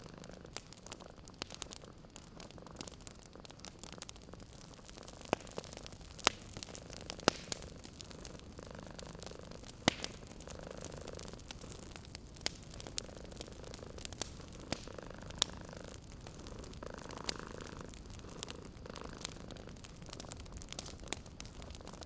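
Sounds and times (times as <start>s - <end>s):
cat purring: 0.0s - 22.0s
wood fire crackling and popping: 0.0s - 22.0s.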